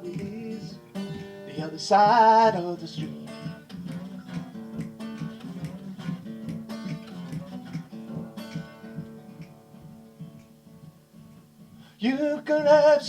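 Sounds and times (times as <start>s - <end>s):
acoustic guitar picked and strummed: 0.0s - 13.0s.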